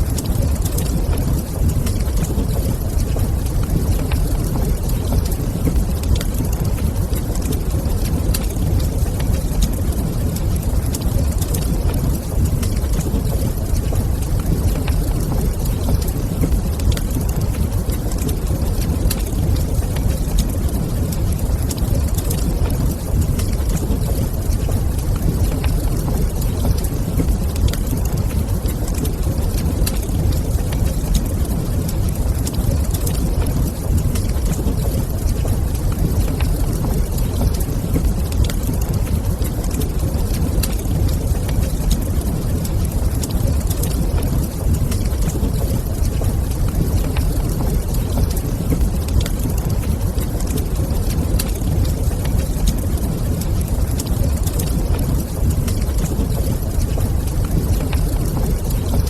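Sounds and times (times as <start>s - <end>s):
steady low rumble: 0.0s - 59.0s
wood fire crackles and pops: 0.0s - 59.0s.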